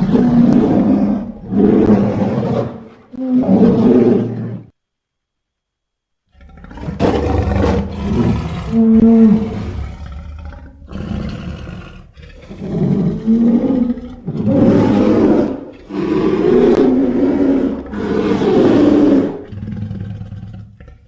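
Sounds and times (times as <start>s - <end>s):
monster roars: 0.0s - 4.7s, 6.4s - 21.0s.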